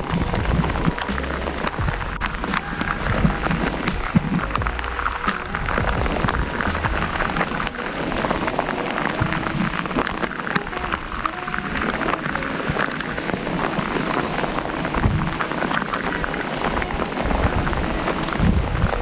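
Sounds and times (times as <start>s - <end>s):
rain falling on water: 0.0s - 19.0s.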